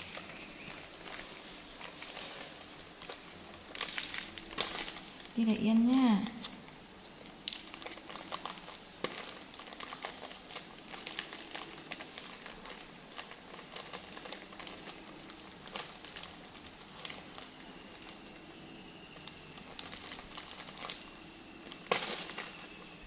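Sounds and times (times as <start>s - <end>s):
bandage wrappers crinkling: 0.0s - 23.0s.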